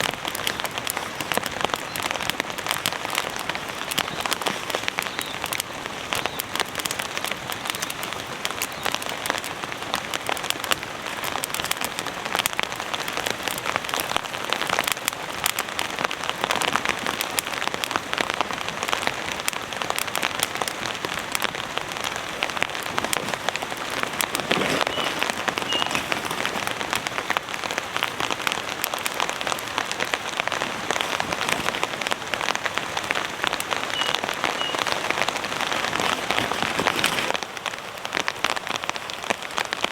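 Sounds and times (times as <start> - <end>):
heavy rain on tent fabric: 0.0 - 39.9.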